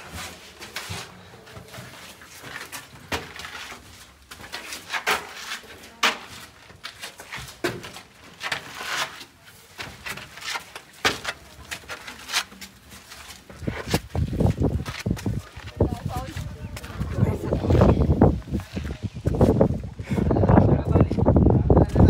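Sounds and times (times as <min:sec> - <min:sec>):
footsteps scuffing on stone steps: 0:00.0 - 0:19.9.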